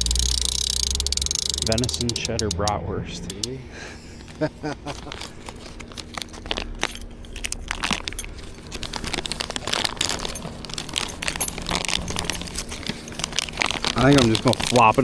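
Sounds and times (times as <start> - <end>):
packaging crinkling: 0.0 - 2.5, 4.1 - 15.0
sharp clicks and clinks: 0.0 - 3.6, 4.2 - 15.0.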